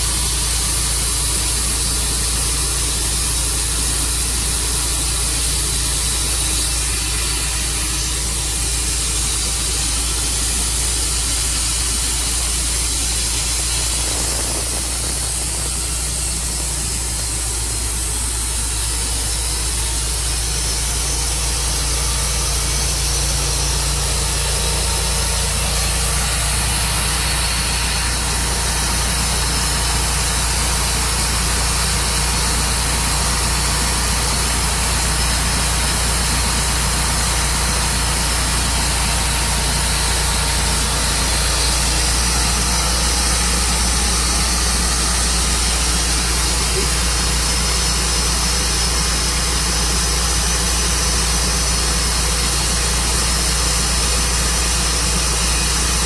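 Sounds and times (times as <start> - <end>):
sawmill engine running: 0.0 - 56.0
steady hiss: 0.0 - 56.0.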